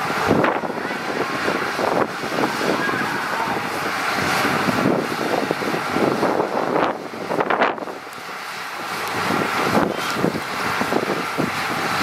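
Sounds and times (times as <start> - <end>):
diesel earthmoving machinery running: 0.0 - 12.0
wind buffeting microphone: 0.0 - 12.0.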